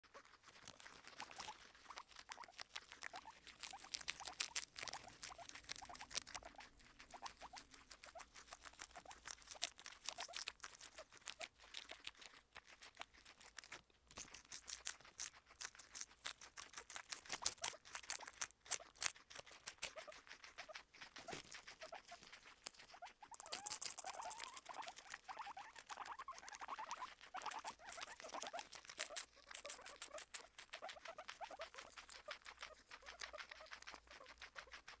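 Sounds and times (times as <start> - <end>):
guinea pigs crunching lettuce: 0.0 - 35.0.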